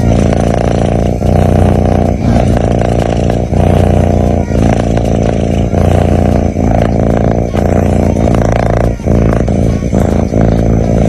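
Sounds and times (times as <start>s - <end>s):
cat snoring: 0.0s - 11.0s.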